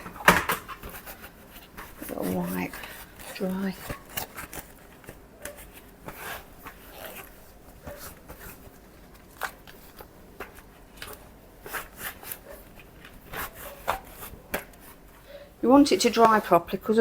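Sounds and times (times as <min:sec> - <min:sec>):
cloth rubbing plastic parts: 0:00.0 - 0:15.3.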